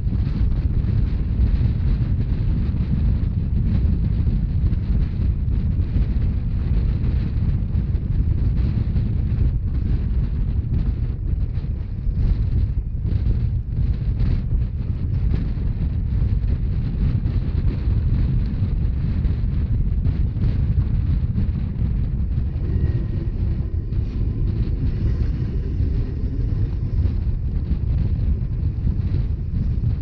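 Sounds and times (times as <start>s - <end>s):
train wheels rumbling on rails: 0.0s - 30.0s
wind buffeting microphone: 0.0s - 30.0s.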